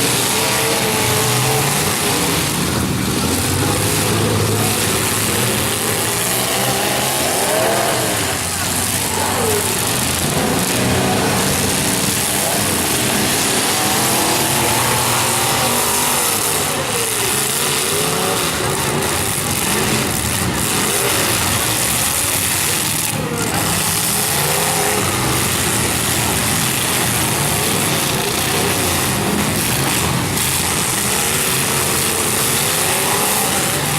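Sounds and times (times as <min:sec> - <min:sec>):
car engines revving: 0:00.0 - 0:33.9
steady loud din: 0:00.0 - 0:33.9.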